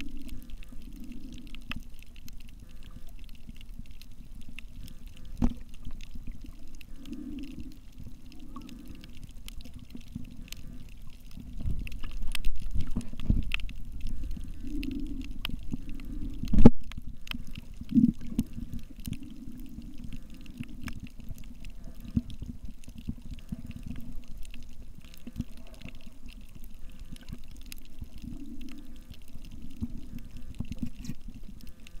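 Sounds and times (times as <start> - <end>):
faint underwater clicks: 0.0 - 32.0
muffled underwater noise: 0.0 - 32.0.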